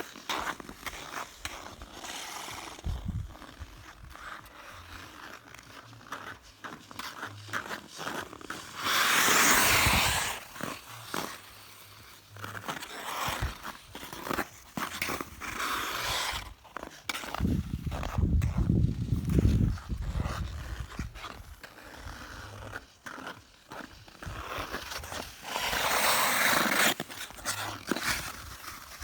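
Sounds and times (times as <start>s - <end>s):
ice skates clicking and knocking: 0.0s - 29.0s
skate blades scraping skid: 0.0s - 29.0s.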